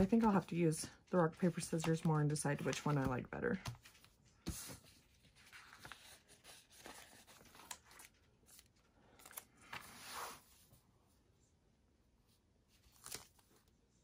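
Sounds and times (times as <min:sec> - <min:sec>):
paper rustling: 0:00.0 - 0:10.8, 0:12.7 - 0:13.7.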